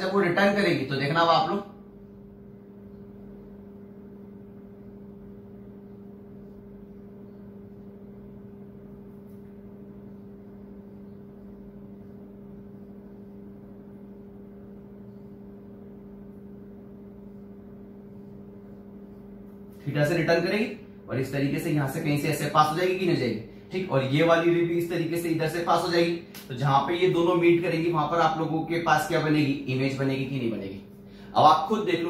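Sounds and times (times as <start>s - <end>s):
electrical hum: 0.0s - 32.0s
room noise: 0.0s - 32.0s.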